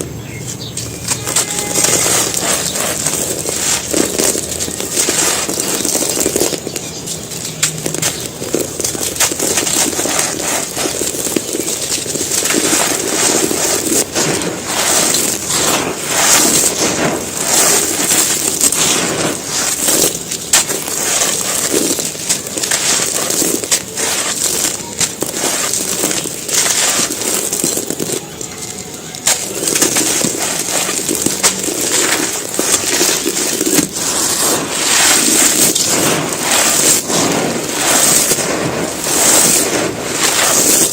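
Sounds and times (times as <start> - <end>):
cement pieces crunching: 0.0 - 40.9.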